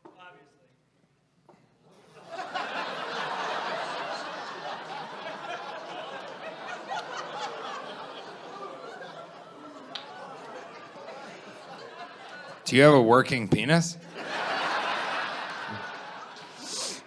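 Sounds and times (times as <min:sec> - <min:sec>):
audience laughing: 0:02.1 - 0:12.9, 0:14.0 - 0:17.0.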